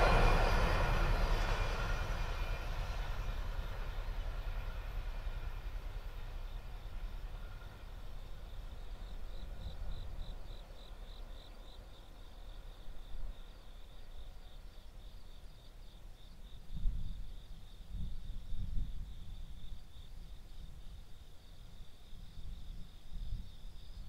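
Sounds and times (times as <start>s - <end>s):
receding train: 0.0s - 21.9s
insects chirping: 0.0s - 24.0s.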